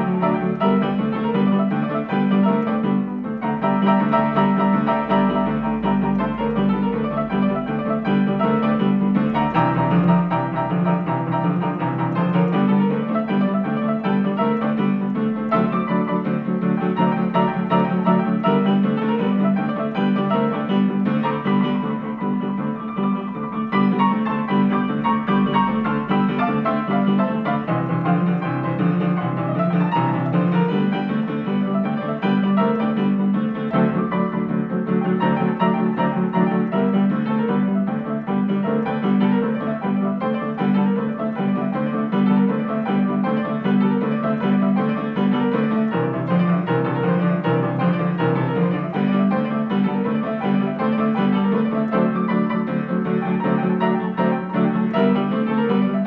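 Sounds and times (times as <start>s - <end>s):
boogie-woogie piano: 0.0s - 56.0s.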